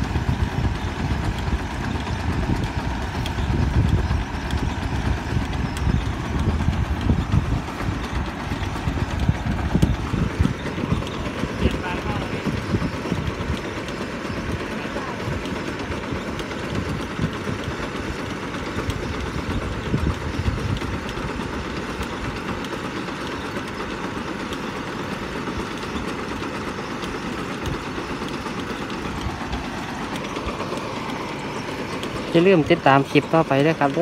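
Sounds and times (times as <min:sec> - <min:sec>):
drilling rig engine running: 0:00.0 - 0:34.0
machinery rattling knocks: 0:00.0 - 0:34.0.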